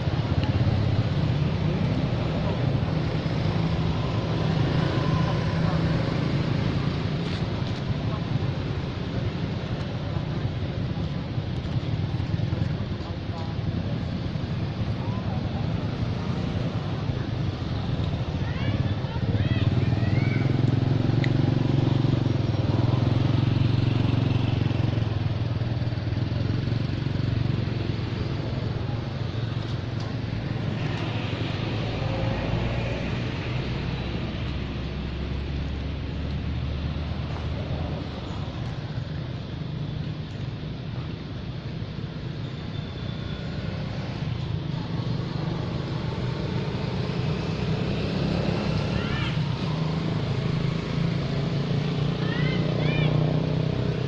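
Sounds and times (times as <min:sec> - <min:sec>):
low outdoor rumble: 0:00.0 - 0:54.0
vehicle engine humming: 0:00.0 - 0:54.0.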